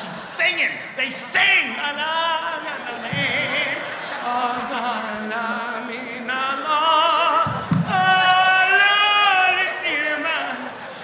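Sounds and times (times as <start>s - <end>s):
man singing in mock operatic style: 0.0s - 11.0s.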